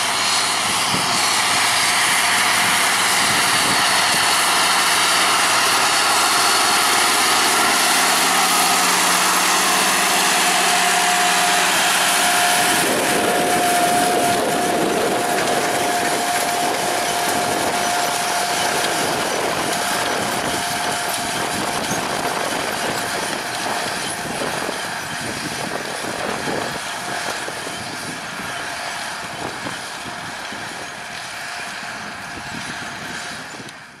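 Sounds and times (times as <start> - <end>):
steady whine: 0.0 - 34.0
tractor diesel engine under load: 0.0 - 34.0.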